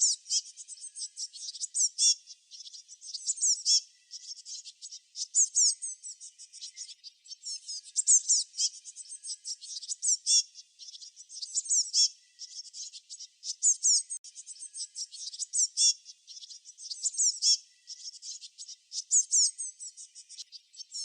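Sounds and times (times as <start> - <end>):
small songbirds chirping: 0.0 - 21.0.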